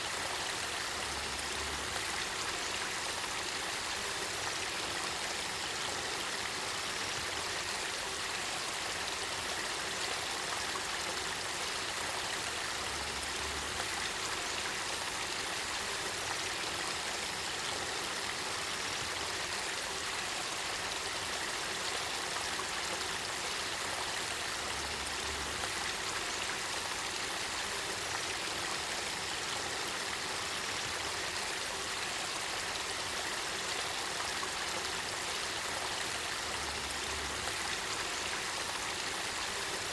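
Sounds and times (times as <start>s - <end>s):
river water flowing and burbling: 0.0s - 39.9s.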